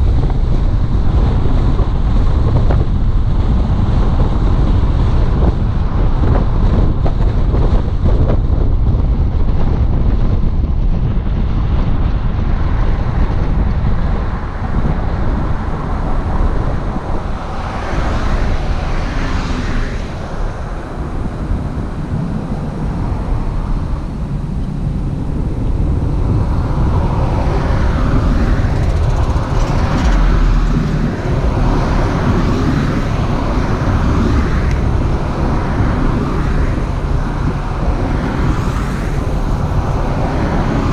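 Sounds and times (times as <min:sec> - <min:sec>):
car road and wind rumble: 0:00.0 - 0:40.9.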